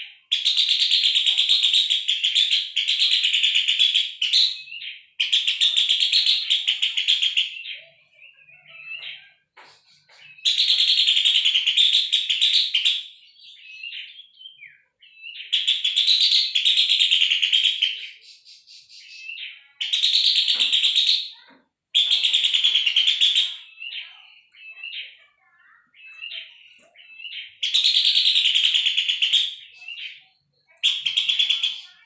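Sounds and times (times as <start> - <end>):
babbler chattering song: 0.0 - 32.0
soft bird calls: 0.0 - 32.0.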